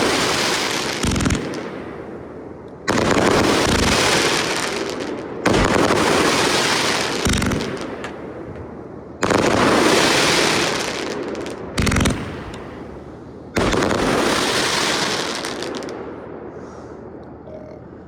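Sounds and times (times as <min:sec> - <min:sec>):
firework bursts: 0:00.0 - 0:17.2.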